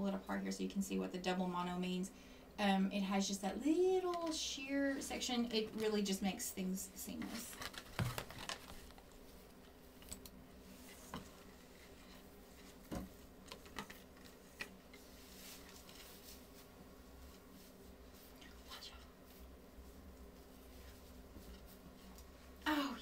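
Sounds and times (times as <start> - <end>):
faint rustling of wigs: 3.4 - 23.0.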